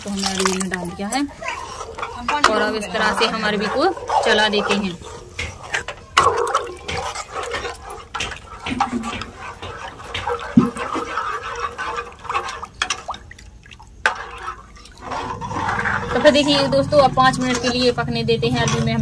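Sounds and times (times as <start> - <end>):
ladle clinking and scraping pan: 0.0 - 13.3, 14.0 - 19.0
liquid sloshing in pan: 0.0 - 19.0.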